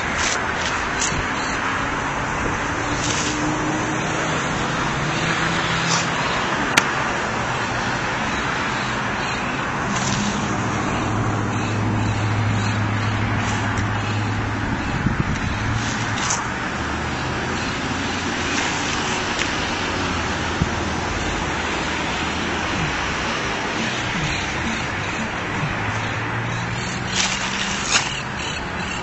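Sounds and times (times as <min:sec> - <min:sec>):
engine hum: 0:00.0 - 0:29.0
road traffic noise: 0:00.0 - 0:29.0.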